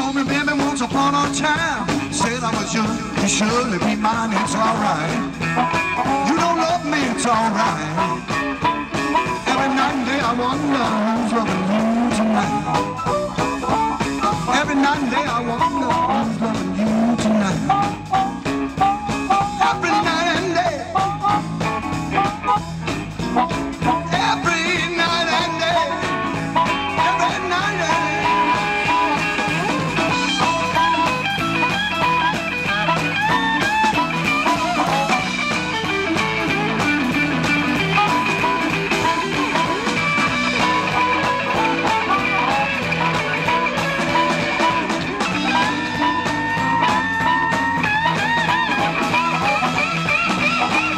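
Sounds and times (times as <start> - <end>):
blues band playing: 0.0 - 50.9
amplified harmonica wavering notes: 1.6 - 50.9.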